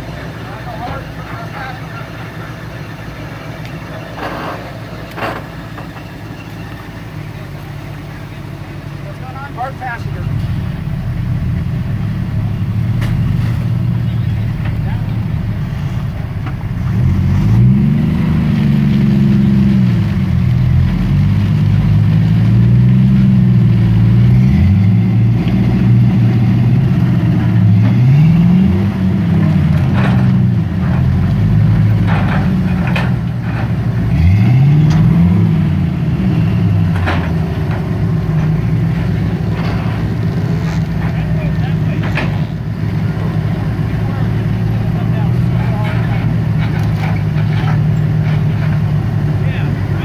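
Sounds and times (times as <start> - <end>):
engine revving under load: 0.0 - 50.0.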